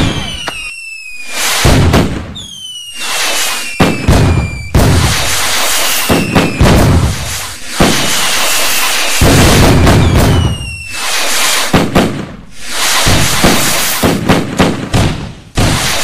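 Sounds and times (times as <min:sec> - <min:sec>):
fireworks whistles falling in pitch: 0:00.0 - 0:14.4
fireworks bangs and booms: 0:00.0 - 0:16.0.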